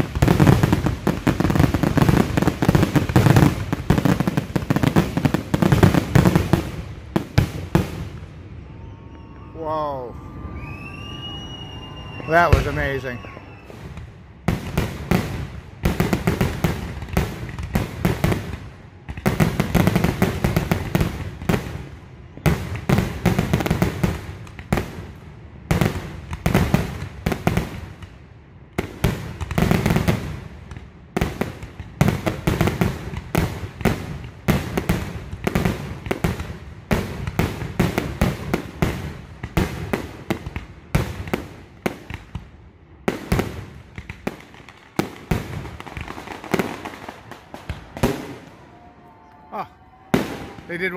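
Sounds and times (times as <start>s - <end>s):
fireworks booming and crackling: 0.0s - 8.5s, 11.0s - 48.6s, 50.1s - 50.9s.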